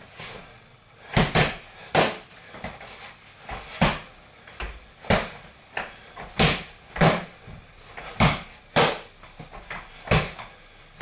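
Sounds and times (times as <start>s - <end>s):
gloves slapping focus mitts: 1.1s - 2.8s, 3.5s - 10.6s.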